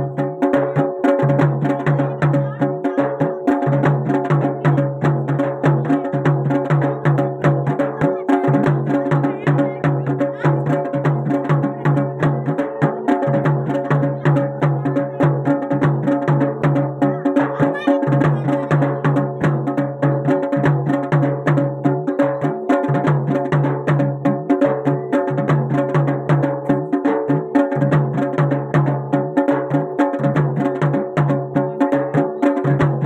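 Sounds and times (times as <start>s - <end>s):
fast drum strokes: 0.0s - 33.0s.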